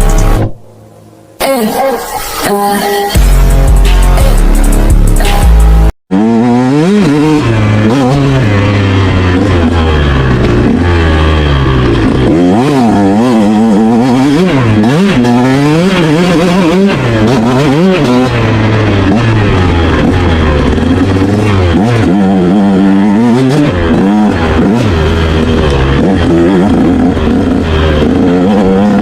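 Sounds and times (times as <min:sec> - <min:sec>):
motorcycle engine revving: 0:00.0 - 0:00.8, 0:03.2 - 0:29.0.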